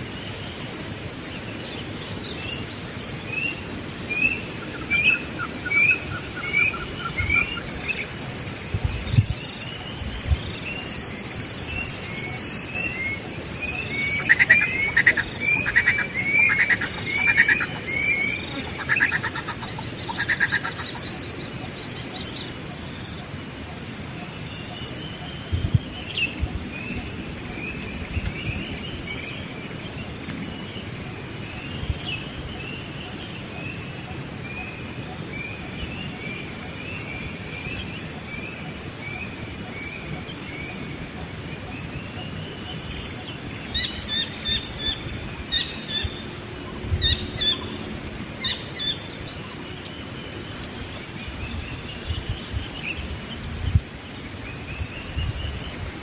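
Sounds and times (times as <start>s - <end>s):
high insect drone: 0.0s - 56.0s
wild birds chirping: 0.0s - 56.0s.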